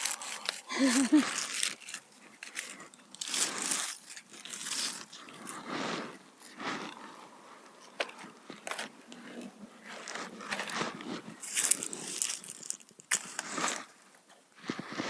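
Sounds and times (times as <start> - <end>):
crunchy apple bites: 0.0 - 7.1, 8.0 - 13.9.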